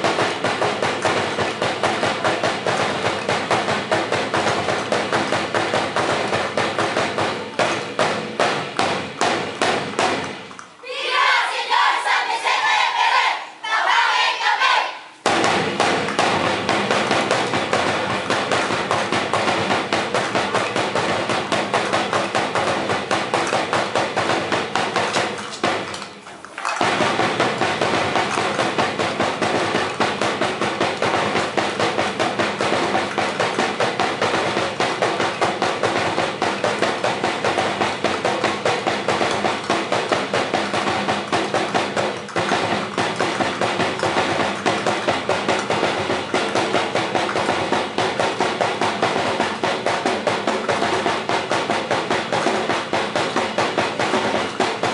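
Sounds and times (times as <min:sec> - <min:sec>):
fast percussion drumming: 0:00.0 - 0:10.7, 0:15.2 - 0:54.9.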